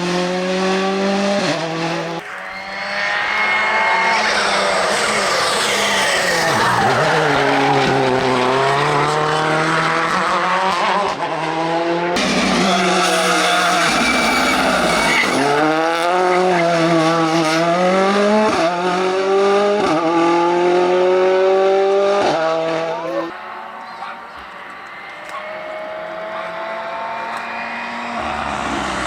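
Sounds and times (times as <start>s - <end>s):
rally car engine revving hard: 0.0s - 23.3s, 25.1s - 29.0s.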